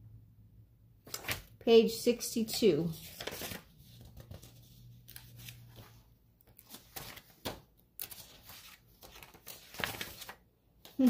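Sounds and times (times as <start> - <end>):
paper sheets rustling: 1.1 - 1.6, 2.4 - 11.0.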